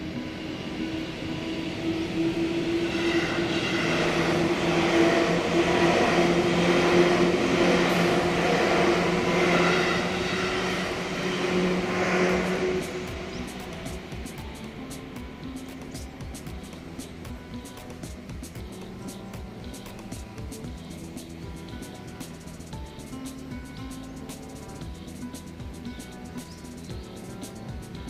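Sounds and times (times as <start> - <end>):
train wheels clattering on rails: 0.8 - 28.0.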